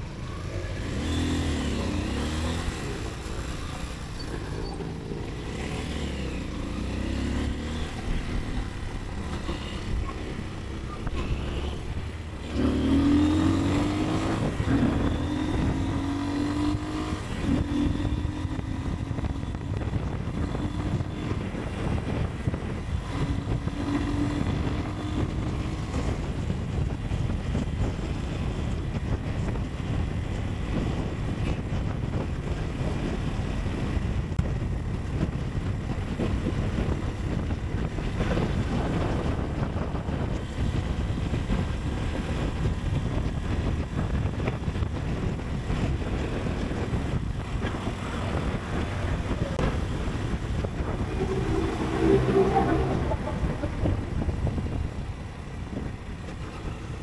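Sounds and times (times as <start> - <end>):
motorcycle engine and road noise: 0.0 - 57.0
wind rush over microphone: 0.0 - 57.0.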